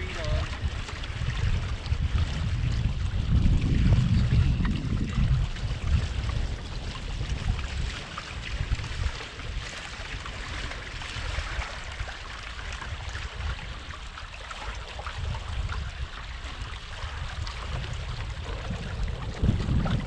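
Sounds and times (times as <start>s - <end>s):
water splashing along boat hull: 0.0s - 20.0s
wind buffeting microphone: 0.0s - 20.0s.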